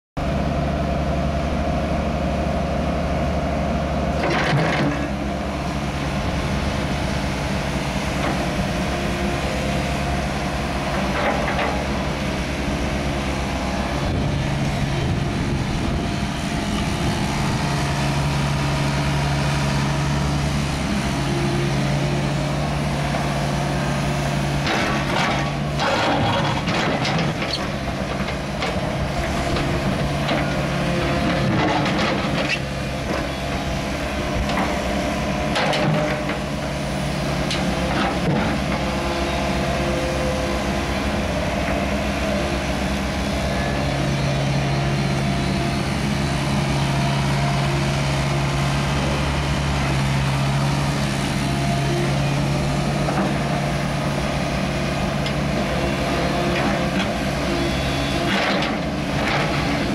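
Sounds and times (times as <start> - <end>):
heavy equipment engine running: 0.2 - 59.9.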